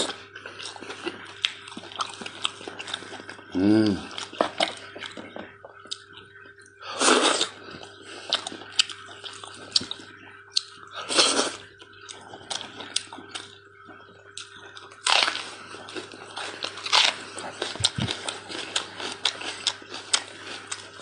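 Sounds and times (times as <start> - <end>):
wet chewing and lip-smacking: 0.0 - 3.4, 7.3 - 21.0.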